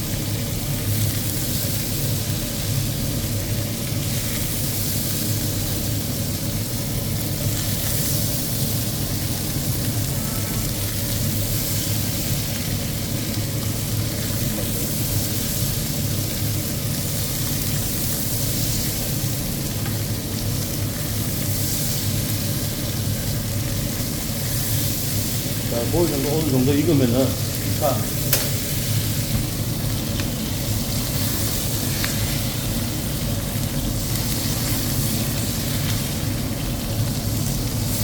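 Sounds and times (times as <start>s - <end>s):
meat sizzling: 0.0s - 38.0s.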